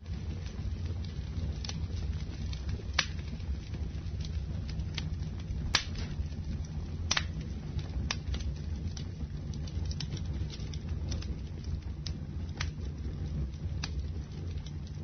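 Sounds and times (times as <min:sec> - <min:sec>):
fire crackles and pops: 0:00.0 - 0:15.0
low noise of campfire flames: 0:00.0 - 0:15.0.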